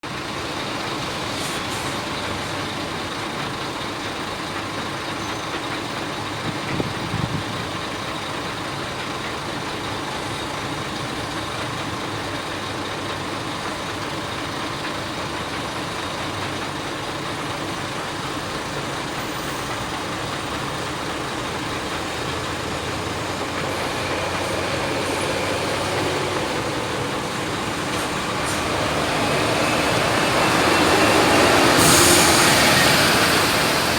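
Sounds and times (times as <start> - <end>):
heavy diesel machinery running: 0.0 - 33.9.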